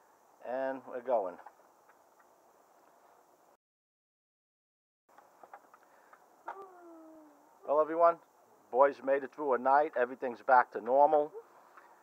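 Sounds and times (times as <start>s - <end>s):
faint background hiss: 0.0s - 3.6s, 5.1s - 12.0s.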